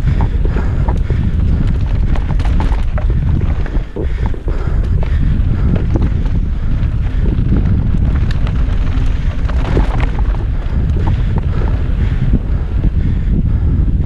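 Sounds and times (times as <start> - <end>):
tyres rumbling on dirt: 0.0 - 13.4
bike rattling clicks and knocks: 0.0 - 13.8
wind noise on microphone: 0.0 - 14.0.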